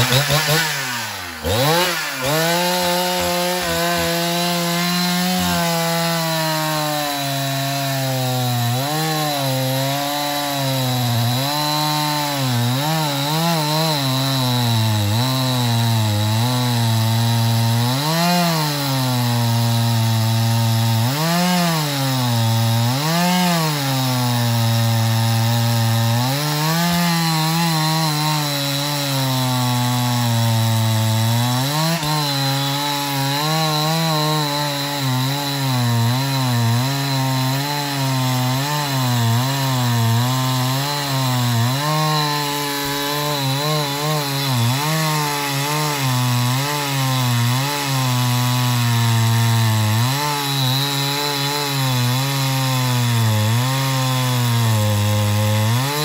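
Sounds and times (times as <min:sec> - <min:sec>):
chainsaw cutting tree trunk: 0:00.0 - 0:56.0.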